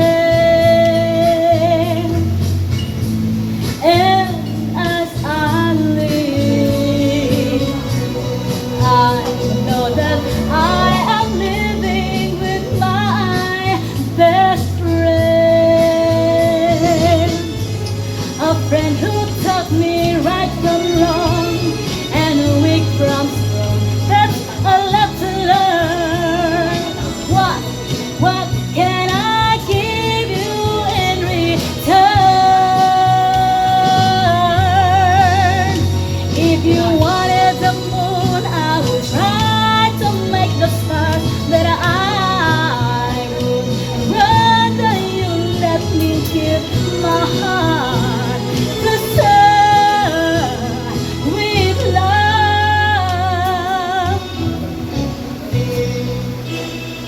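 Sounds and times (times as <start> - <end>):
person singing: 0.0 - 2.5, 3.6 - 57.0
backing track music: 0.0 - 57.0
steady bass: 0.0 - 57.0.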